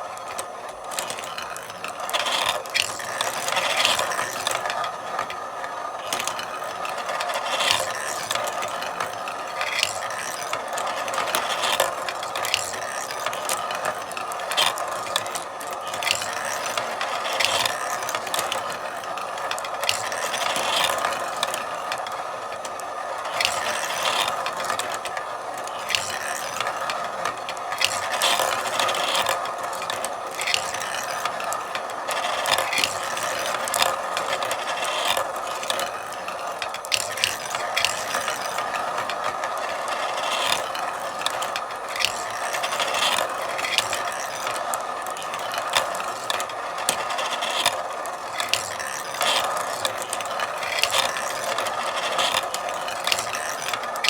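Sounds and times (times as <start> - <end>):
marbles rolling on tracks: 0.0 - 54.0.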